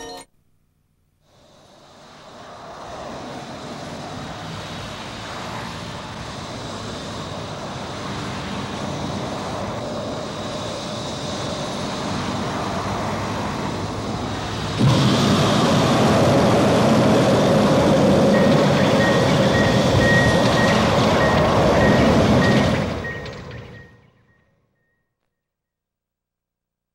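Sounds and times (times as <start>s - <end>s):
hovertank engine roar: 1.4s - 24.1s.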